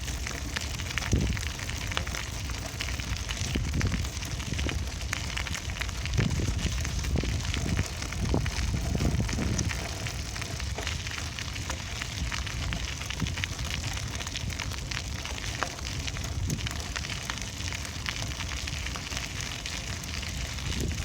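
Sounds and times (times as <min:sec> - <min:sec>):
bicycle tyres rolling over rough surface: 0:00.0 - 0:21.0.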